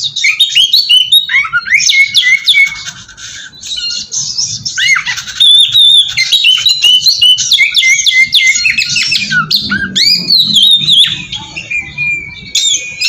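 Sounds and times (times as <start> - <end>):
songbird whistling and chattering: 0.0 - 13.0.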